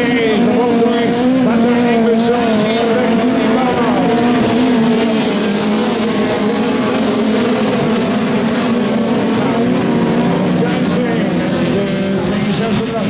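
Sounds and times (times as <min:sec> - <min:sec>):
racing car engines at high revs: 0:00.0 - 0:13.0.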